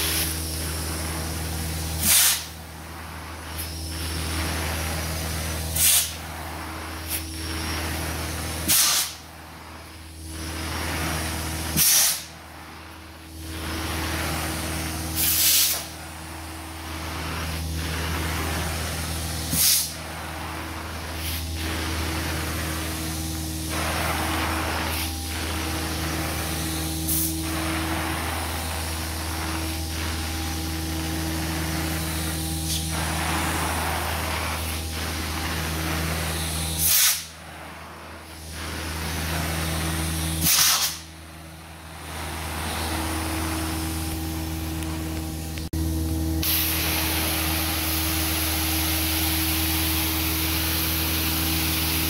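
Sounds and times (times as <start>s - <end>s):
sharp rushes of hiss: 0.0s - 45.1s
carpet extractor running: 0.0s - 52.0s.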